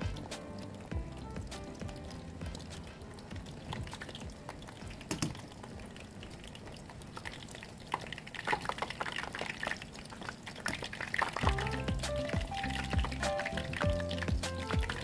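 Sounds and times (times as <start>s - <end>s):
oil sizzling with crackles: 0.0s - 15.0s.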